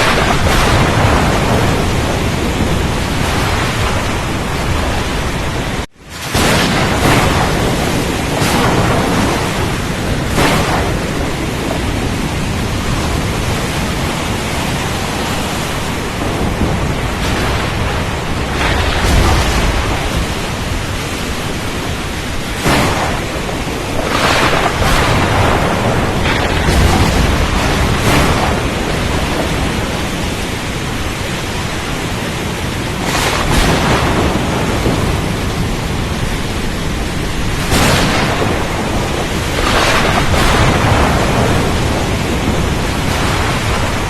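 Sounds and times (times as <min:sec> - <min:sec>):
stormy sea rushing: 0:00.0 - 0:44.0.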